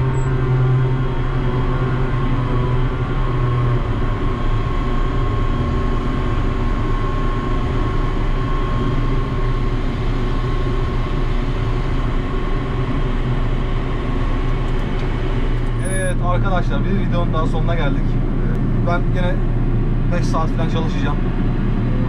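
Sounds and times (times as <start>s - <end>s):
crane machinery low drone: 0.0s - 22.0s
steady high whine: 0.0s - 22.0s.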